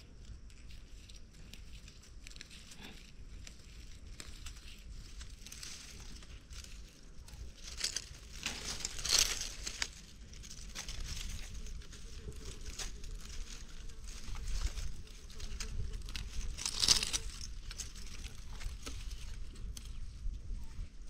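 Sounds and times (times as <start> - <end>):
dry leaves crackling and rustling: 0.4 - 20.9.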